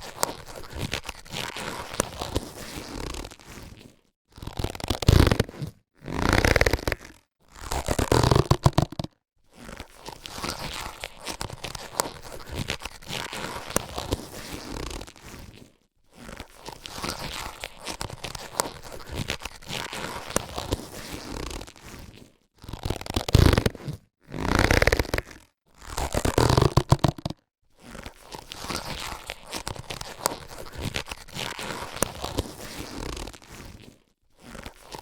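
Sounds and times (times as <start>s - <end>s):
latex gloves rustling and crackling: 0.0s - 35.0s.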